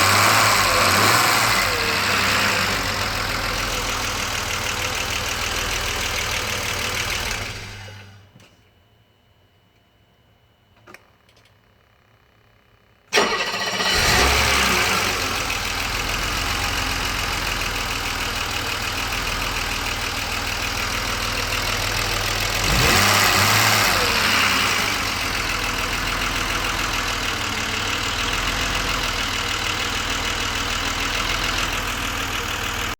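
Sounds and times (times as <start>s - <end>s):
car engine starting and idling: 0.0s - 8.3s, 13.1s - 32.9s.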